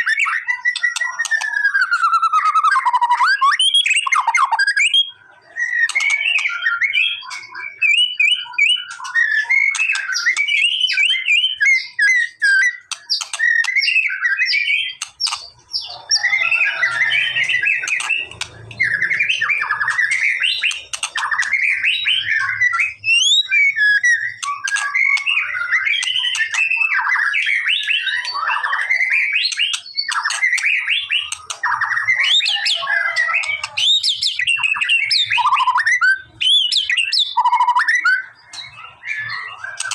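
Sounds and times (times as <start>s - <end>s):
songbird singing whistles and chirps: 0.0s - 39.9s.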